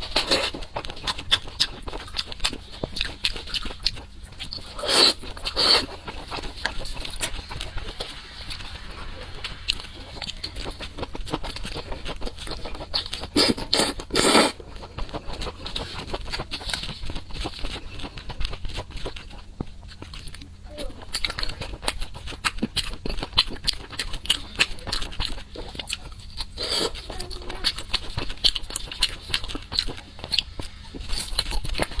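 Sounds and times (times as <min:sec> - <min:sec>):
crunching and chewing: 0:00.0 - 0:32.0.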